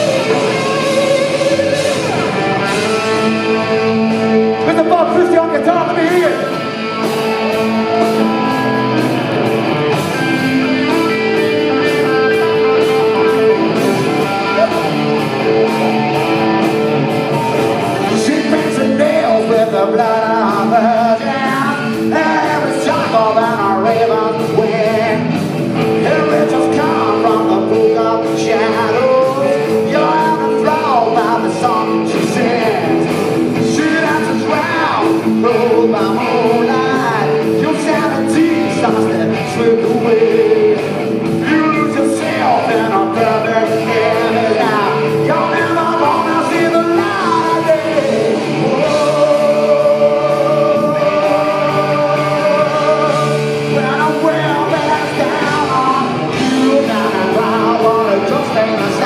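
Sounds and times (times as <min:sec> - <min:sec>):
man singing: 0:00.0 - 0:09.0, 0:10.1 - 0:16.5, 0:17.4 - 0:59.0
rock band playing: 0:00.0 - 0:59.0.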